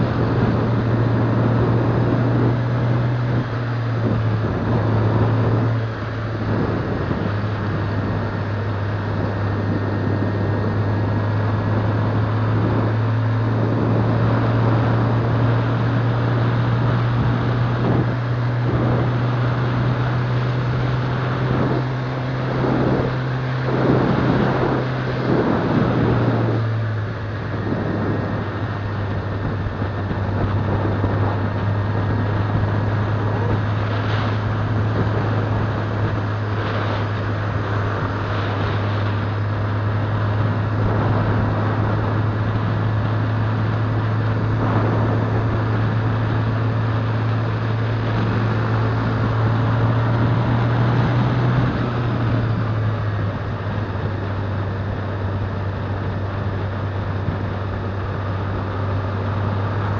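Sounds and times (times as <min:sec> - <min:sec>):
motorcycle engine cruising: 0:00.0 - 0:59.9
road noise: 0:00.0 - 0:59.9
wind noise: 0:00.0 - 0:59.9.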